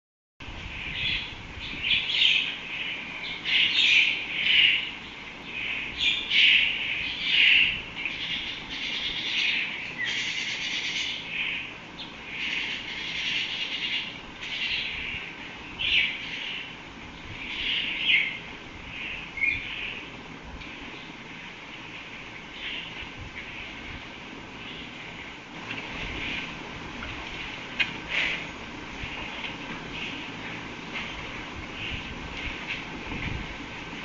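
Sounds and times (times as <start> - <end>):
birds chirping: 0.6 - 34.0.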